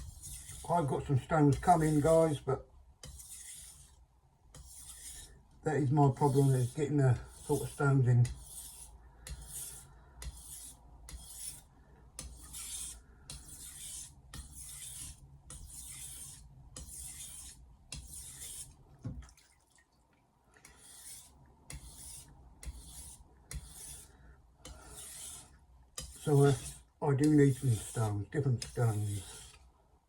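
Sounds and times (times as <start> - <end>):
knife sharpening on whetstone: 0.0 - 0.6, 3.0 - 5.4, 6.4 - 18.8, 20.6 - 29.6.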